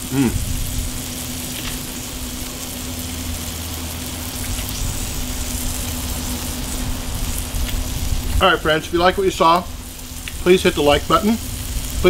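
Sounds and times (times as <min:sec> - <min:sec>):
patties sizzling on griddle: 0:00.0 - 0:12.0.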